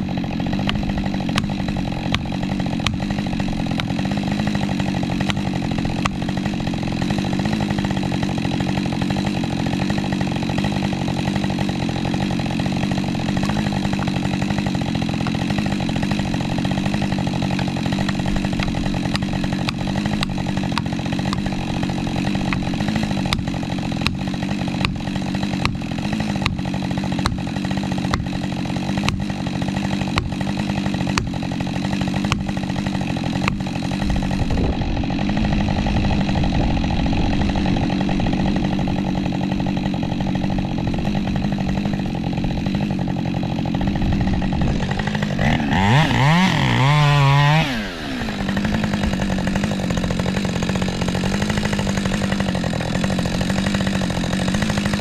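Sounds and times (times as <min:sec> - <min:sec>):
chainsaw revving: 0:00.0 - 0:55.0
chainsaw running: 0:00.0 - 0:55.0.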